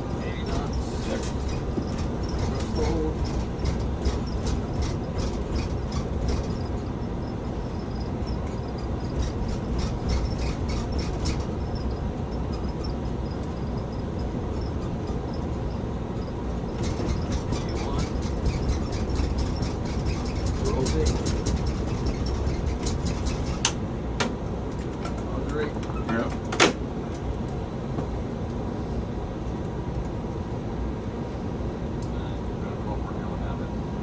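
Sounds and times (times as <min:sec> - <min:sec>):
wheels thumping over runway joints: 0:00.0 - 0:28.2
loud engine and runway rumble: 0:00.0 - 0:34.0.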